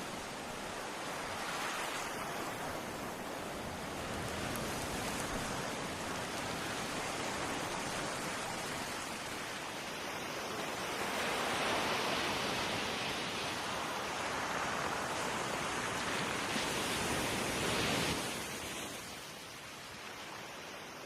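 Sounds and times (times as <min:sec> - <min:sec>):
seawater rushing and waves: 0:00.0 - 0:21.0.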